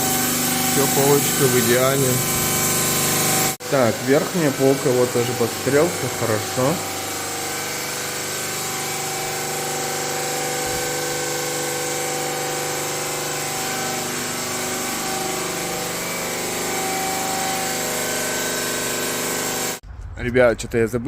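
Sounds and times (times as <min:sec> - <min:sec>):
electric power tool running: 0:00.0 - 0:19.8.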